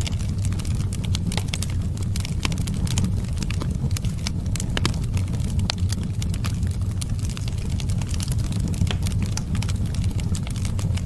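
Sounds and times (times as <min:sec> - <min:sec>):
steady low rumble: 0:00.0 - 0:11.0
wood fire crackling: 0:00.0 - 0:11.0.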